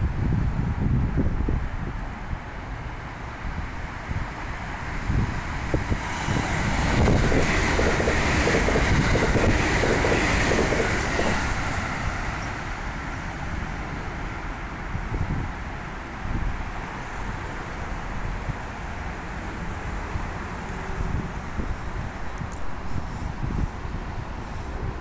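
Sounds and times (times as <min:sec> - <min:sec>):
electric train passing: 0:02.6 - 0:25.0.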